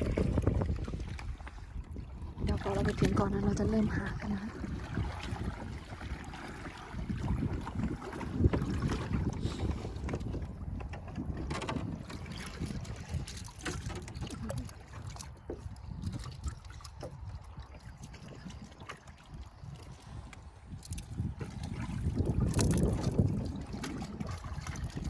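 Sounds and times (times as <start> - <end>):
water lapping and splashing: 0.0 - 25.0
wind rumbling on microphone: 0.0 - 25.0.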